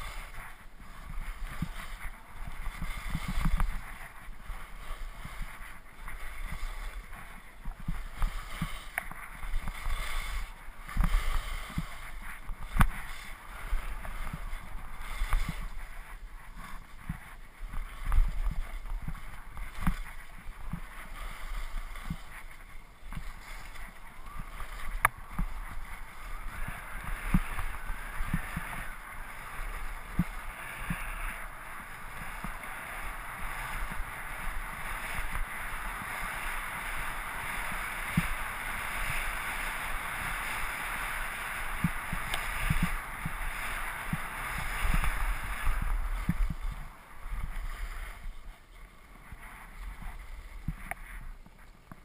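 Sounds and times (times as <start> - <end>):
skis scraping over snow: 0.0 - 52.0.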